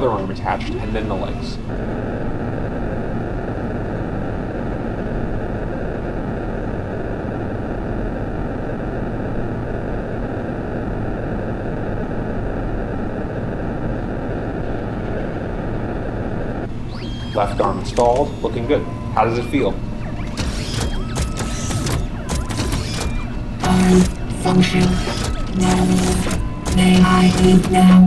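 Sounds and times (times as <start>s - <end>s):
low hum: 0.0s - 28.0s
static-like hiss: 0.0s - 28.0s.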